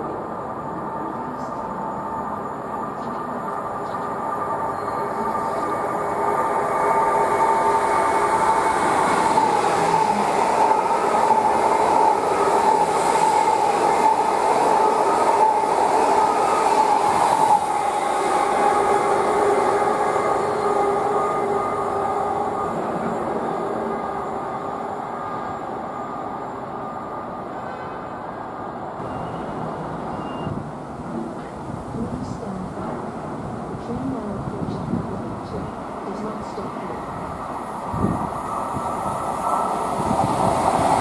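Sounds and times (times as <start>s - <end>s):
train wheels on rail: 0.0s - 41.0s.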